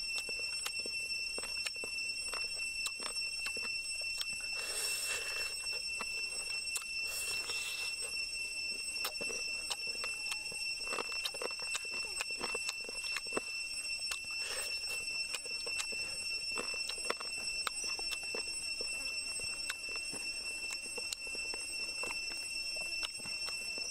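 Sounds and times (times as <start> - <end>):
chewing and tearing meat: 0.0 - 23.9
high-pitched insect drone: 0.0 - 23.9.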